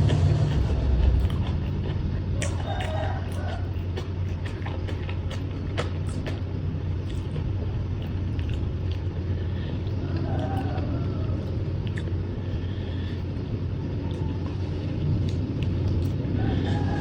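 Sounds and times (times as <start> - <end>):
low rumble: 0.0 - 17.0
person chewing crunchy food: 0.0 - 17.0.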